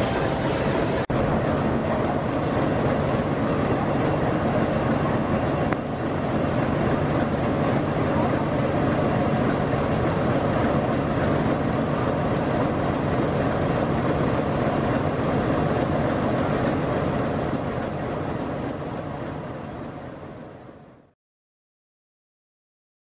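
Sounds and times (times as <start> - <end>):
diesel locomotive engine idling: 0.0 - 21.1.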